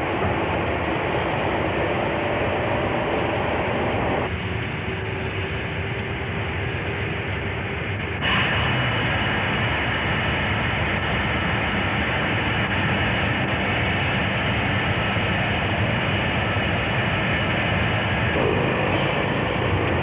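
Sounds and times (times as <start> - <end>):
steady rumbling noise: 0.0 - 4.8, 5.8 - 20.0.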